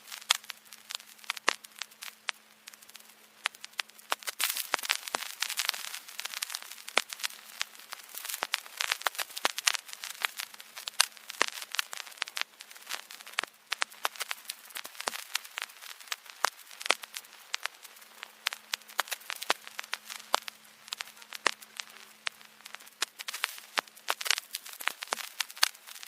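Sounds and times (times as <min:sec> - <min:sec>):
faint hiss: 0:00.0 - 0:26.0
vinyl clicks and pops: 0:00.1 - 0:26.0.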